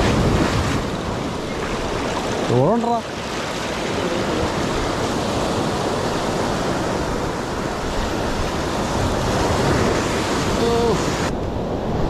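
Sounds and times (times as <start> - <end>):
wind on microphone: 0.0 - 2.5, 3.3 - 12.0
surf rushing: 0.0 - 12.0.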